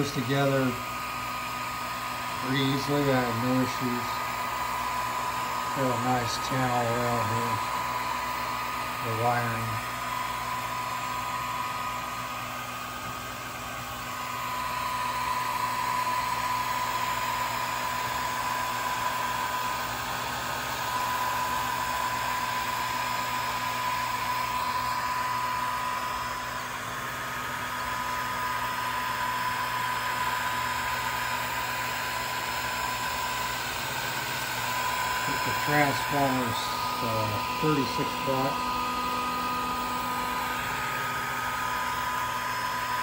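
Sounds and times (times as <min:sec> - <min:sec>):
high steady whine: 0:00.0 - 0:43.0
laser engraver fan whirr: 0:00.0 - 0:43.0.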